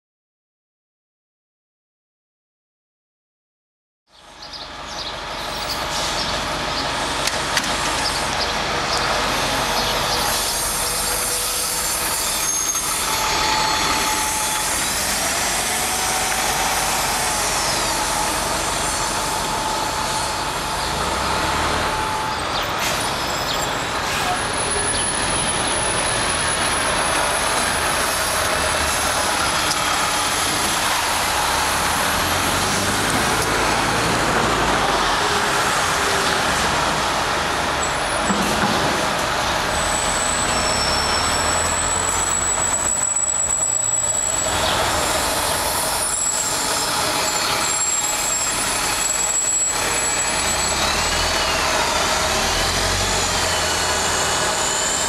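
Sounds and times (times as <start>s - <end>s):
bus engine and road noise: 4.1s - 55.0s.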